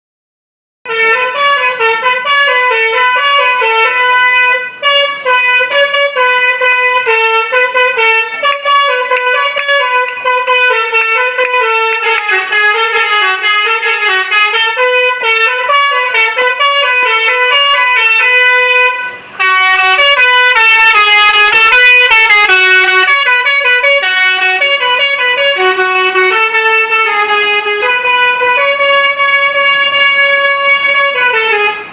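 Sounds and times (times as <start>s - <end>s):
musical air horn melody: 0.9s - 31.9s.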